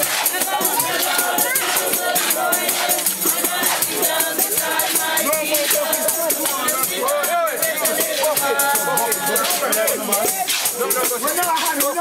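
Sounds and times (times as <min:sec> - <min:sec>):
group singing a hymn: 0:00.0 - 0:11.7
tambourine jingling: 0:00.0 - 0:12.0.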